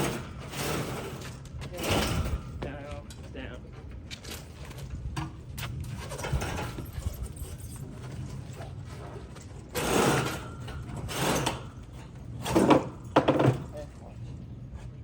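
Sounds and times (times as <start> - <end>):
mechanical creaks and knocks: 0.0 - 13.8.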